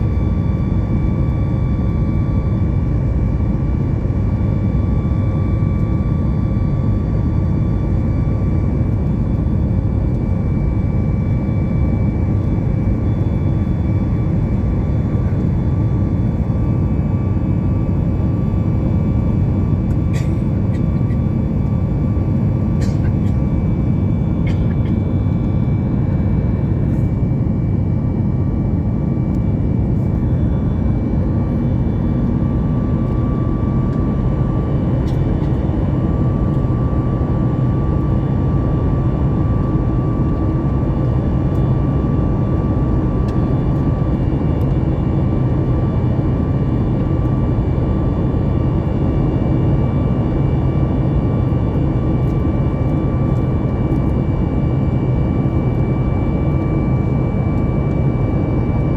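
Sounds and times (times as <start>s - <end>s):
airplane cabin rumble: 0.0s - 58.9s
faint whining tones: 0.0s - 58.9s.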